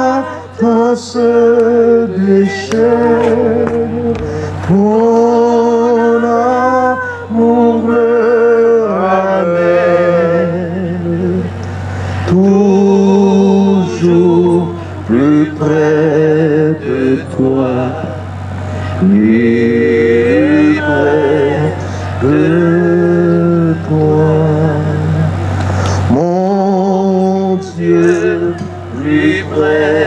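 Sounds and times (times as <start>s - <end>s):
people singing a hymn: 0.0s - 30.0s
steady low hum: 0.0s - 30.0s.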